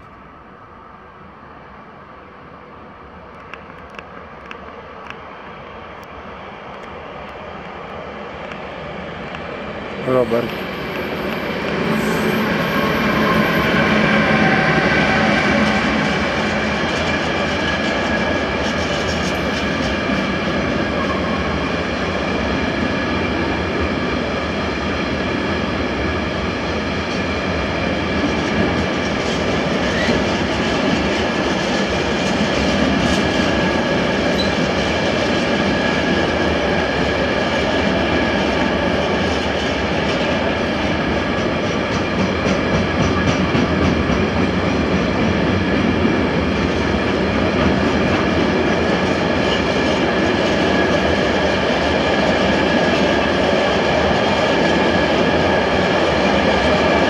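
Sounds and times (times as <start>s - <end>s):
freight train wheels rumbling: 2.6s - 57.0s.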